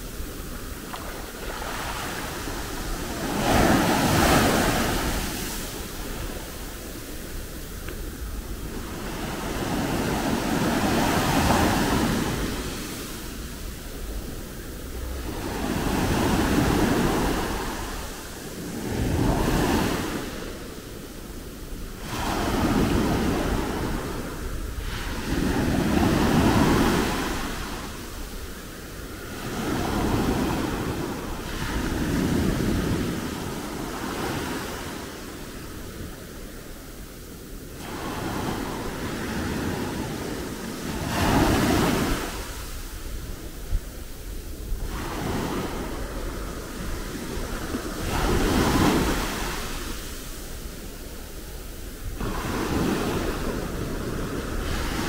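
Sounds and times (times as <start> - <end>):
sea waves breaking ashore: 0.0 - 55.0
wind rumbling on microphone: 0.0 - 55.0.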